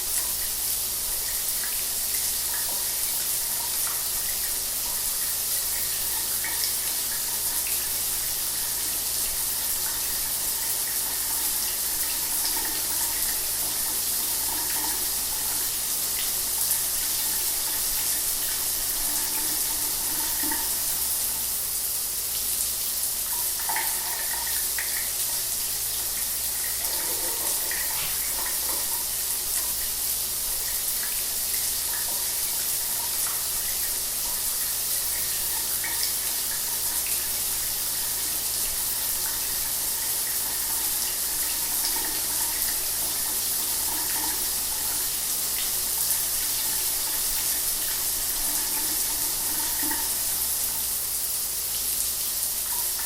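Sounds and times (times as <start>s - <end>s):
shower water running: 0.0s - 53.0s.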